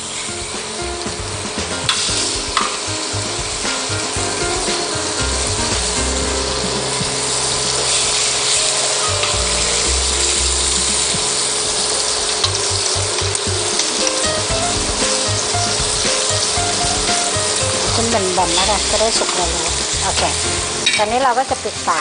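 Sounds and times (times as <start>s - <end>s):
ribs sizzling in a hot pan: 0.0s - 22.0s.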